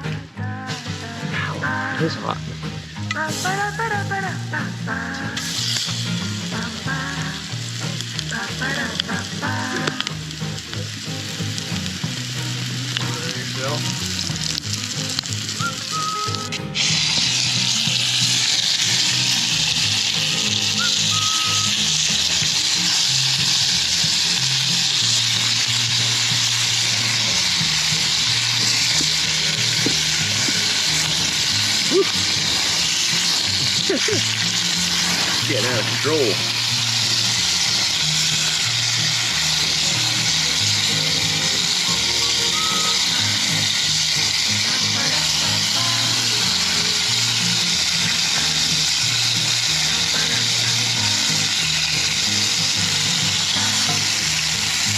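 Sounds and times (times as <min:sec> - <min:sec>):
background music with low bass: 0:00.0 - 0:54.9
meat sizzling over fire: 0:00.0 - 0:54.9.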